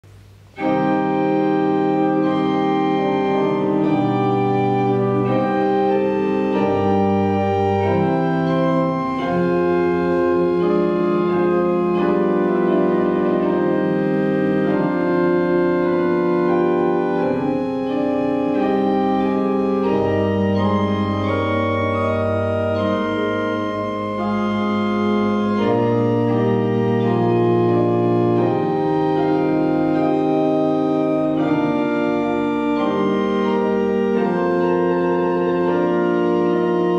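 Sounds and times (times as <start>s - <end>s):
organ music: 0.1s - 36.9s.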